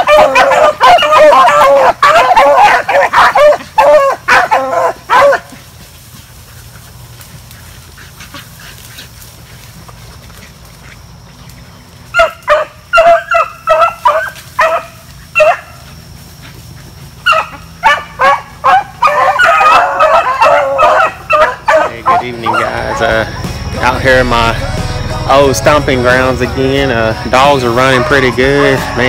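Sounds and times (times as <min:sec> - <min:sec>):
hounds baying: 0:00.0 - 0:29.0.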